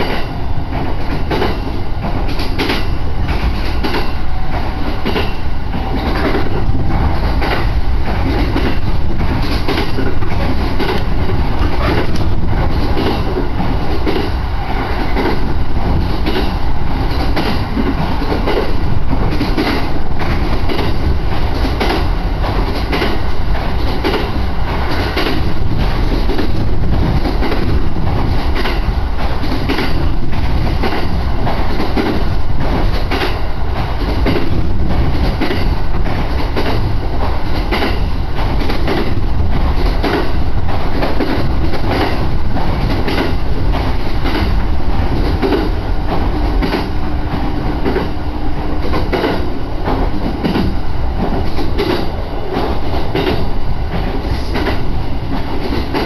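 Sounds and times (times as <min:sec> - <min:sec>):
wheels clicking over rail joints: 0:00.0 - 0:48.2
train wheels rumbling: 0:00.0 - 0:56.0.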